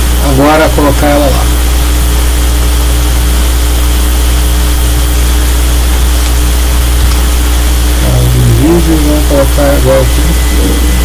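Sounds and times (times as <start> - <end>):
low-pitched hum: 0.0 - 11.0.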